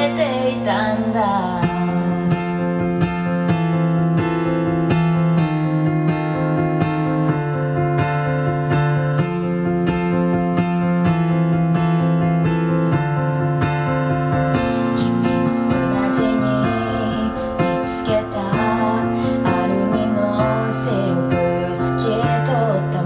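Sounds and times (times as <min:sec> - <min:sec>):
slow piano ballad chords: 0:00.0 - 0:23.0.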